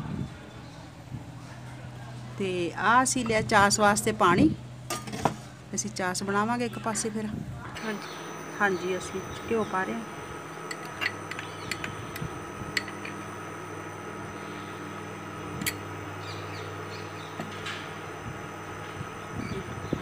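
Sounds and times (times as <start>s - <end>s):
appliance electrical hum: 0.0s - 20.0s.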